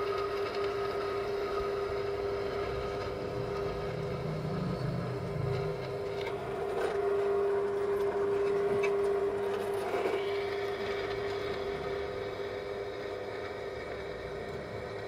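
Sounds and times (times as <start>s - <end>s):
small motor humming: 0.0s - 15.0s.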